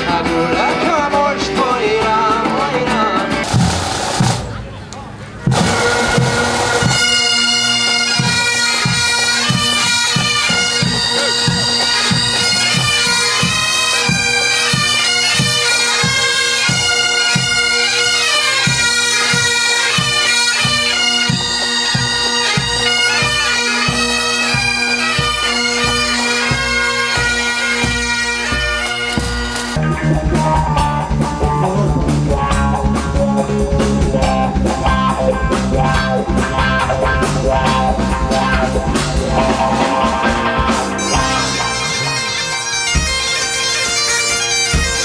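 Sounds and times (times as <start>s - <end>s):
drum beat: 3.4s - 4.6s, 5.5s - 45.0s
bagpipes playing: 5.5s - 31.2s, 34.5s - 45.0s.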